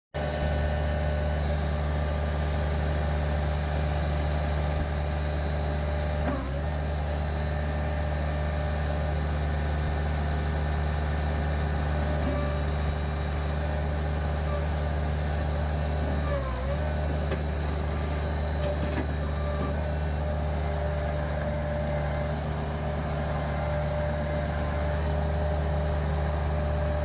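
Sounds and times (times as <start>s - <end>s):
diesel engine running: 0.2s - 27.0s.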